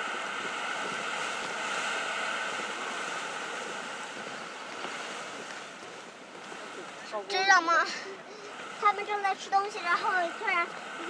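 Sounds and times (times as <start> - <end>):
steam vents hissing: 0.0 - 11.0.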